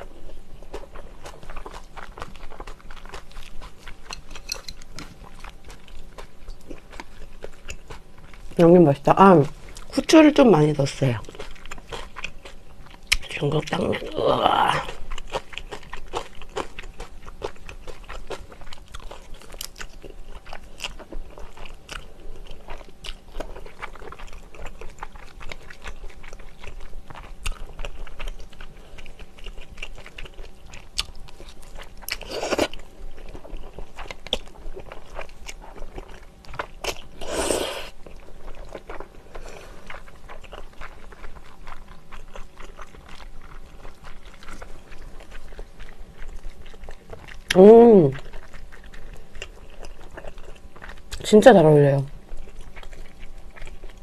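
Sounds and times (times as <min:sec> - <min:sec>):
chewing noodles: 0:00.0 - 0:51.5, 0:52.1 - 0:54.0.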